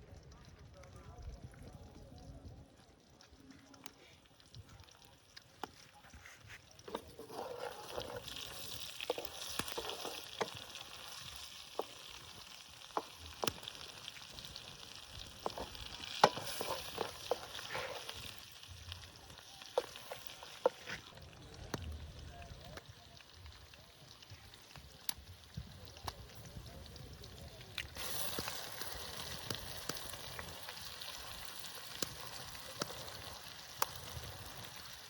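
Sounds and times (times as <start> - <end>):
eggs sizzling in a pan: 2.5 - 35.0.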